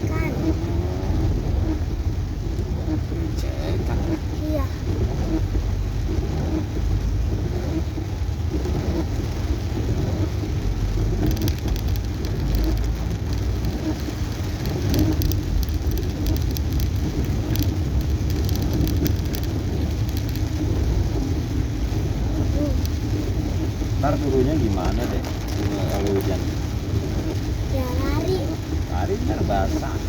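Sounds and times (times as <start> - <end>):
car engine and tyres rumbling: 0.0 - 30.0
raindrops ticking on car: 0.0 - 30.0.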